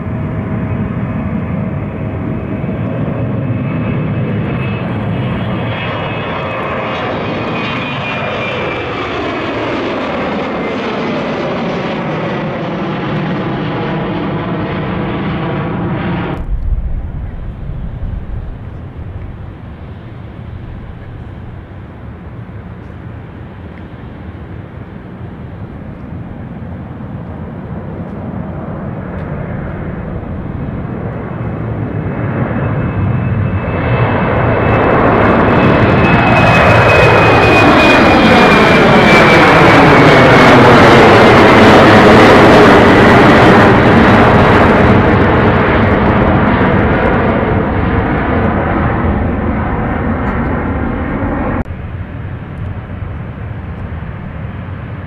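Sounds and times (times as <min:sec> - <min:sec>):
high engine whine: 0:00.0 - 0:55.0
jet engines rumbling at take-off: 0:00.0 - 0:55.0.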